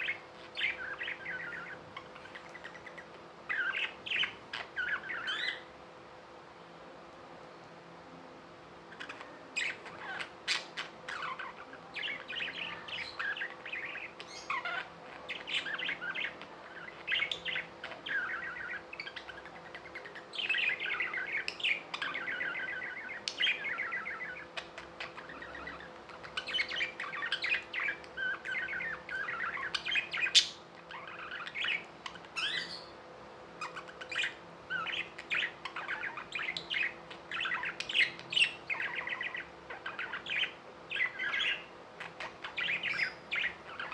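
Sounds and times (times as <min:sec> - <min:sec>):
budgerigars chirping and warbling: 0:00.0 - 0:05.7, 0:08.9 - 0:43.9.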